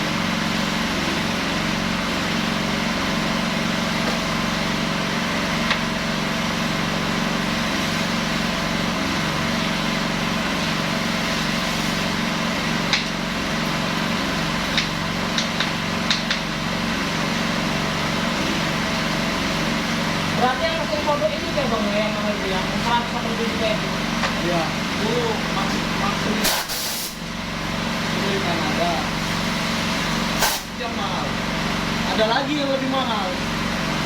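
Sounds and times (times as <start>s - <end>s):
small engine running steadily: 0.0s - 34.0s.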